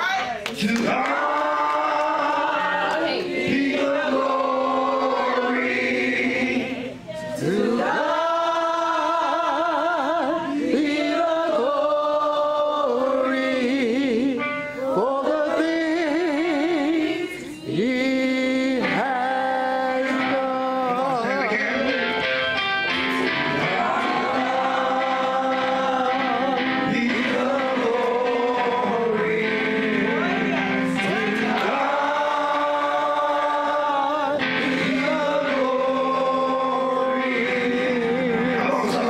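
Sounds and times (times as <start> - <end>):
woman and man singing gospel: 0.0 - 39.0.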